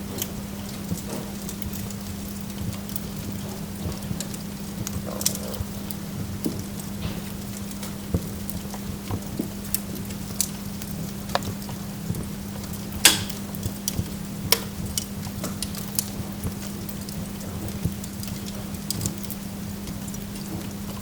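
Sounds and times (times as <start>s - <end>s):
steady low hum: 0.0s - 21.0s
wood logs crackling in fire: 0.0s - 21.0s.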